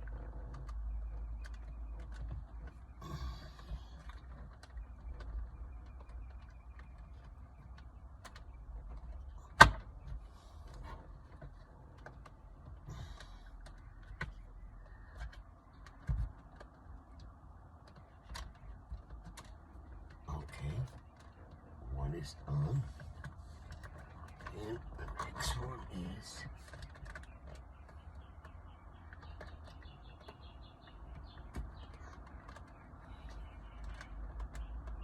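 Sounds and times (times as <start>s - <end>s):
plastic parts clicking and tapping: 0.0s - 21.6s, 26.5s - 35.0s
low steady hum: 0.0s - 35.0s.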